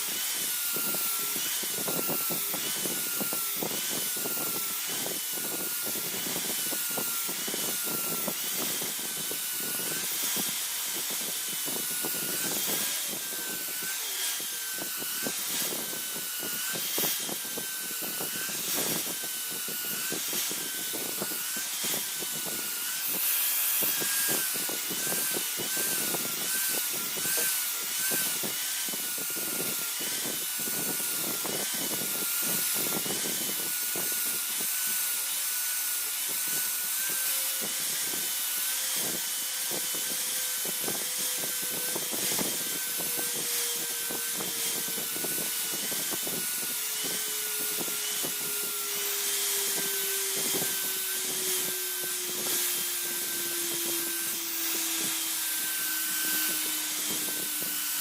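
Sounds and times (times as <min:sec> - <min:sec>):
high wavering whine: 0:00.0 - 0:58.0.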